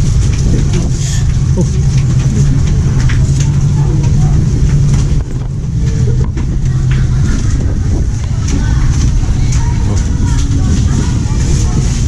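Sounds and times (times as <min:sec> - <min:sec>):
engine running steadily: 0:00.0 - 0:12.0
rumbling background: 0:00.0 - 0:12.0.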